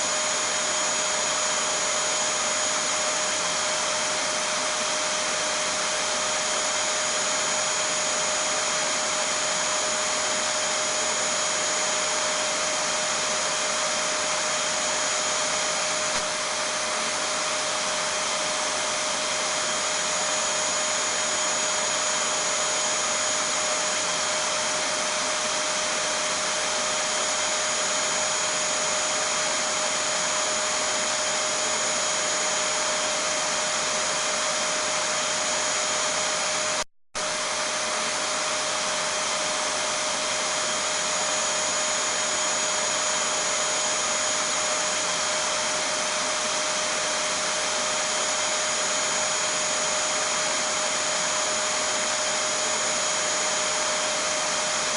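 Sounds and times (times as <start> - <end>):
vacuum cleaner whine and hiss: 0.0 - 54.9.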